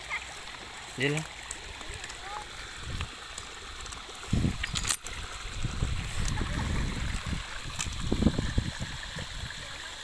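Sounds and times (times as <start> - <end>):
stream running: 0.0 - 10.0.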